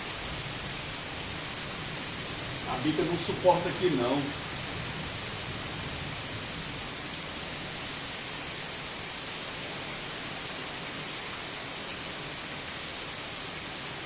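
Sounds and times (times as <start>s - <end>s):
heavy rain on paving: 0.0s - 14.0s.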